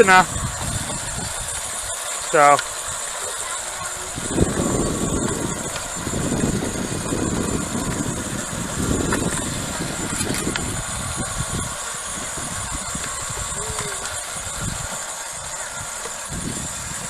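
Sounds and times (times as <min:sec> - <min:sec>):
cultivator tines churning soil: 0:00.0 - 0:17.0
high motor whine: 0:00.0 - 0:17.0.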